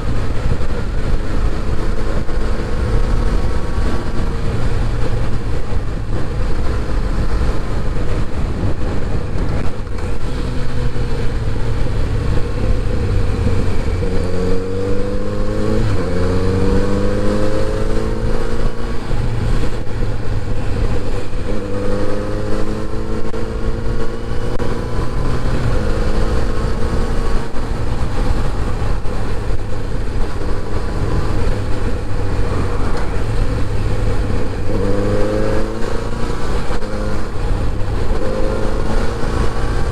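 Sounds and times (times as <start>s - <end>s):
motorcycle engine accelerating: 0.0s - 39.9s
road and wind rumble: 0.0s - 39.9s.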